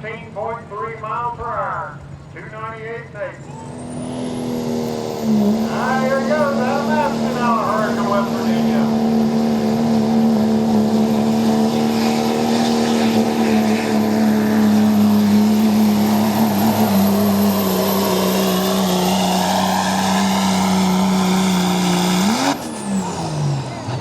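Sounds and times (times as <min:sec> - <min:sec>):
truck engine high-revving drone: 0:00.0 - 0:24.0.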